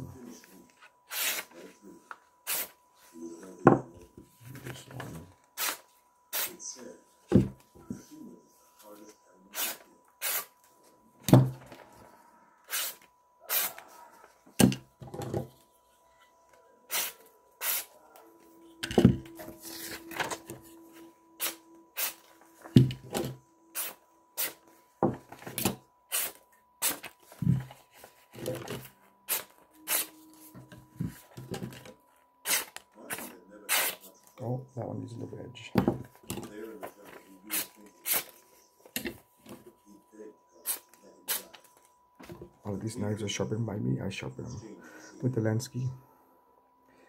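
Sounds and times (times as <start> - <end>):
faint steady tone: 0.0 - 47.0.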